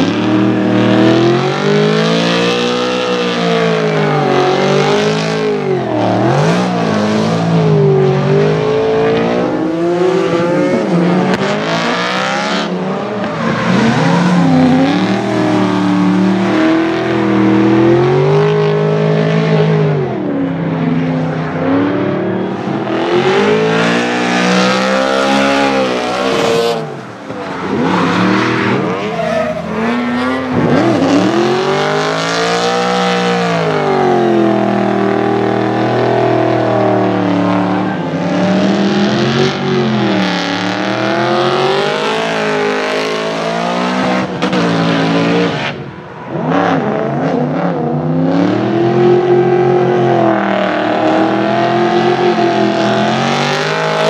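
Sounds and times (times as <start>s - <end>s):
car engine revving hard: 0.0s - 54.0s.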